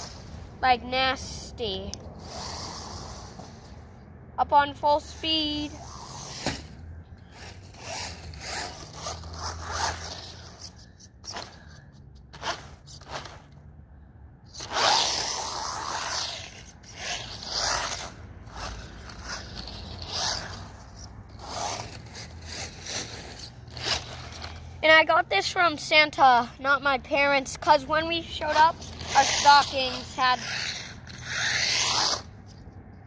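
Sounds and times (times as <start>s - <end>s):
rc car motor whining: 0.0s - 0.5s, 1.3s - 3.9s, 5.0s - 13.6s, 14.5s - 25.6s, 27.2s - 32.6s.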